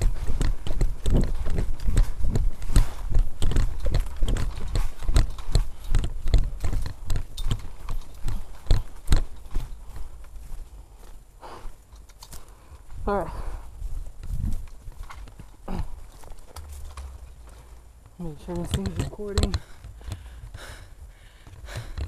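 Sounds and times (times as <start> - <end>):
running footsteps on dry leaves: 0.0 - 22.0.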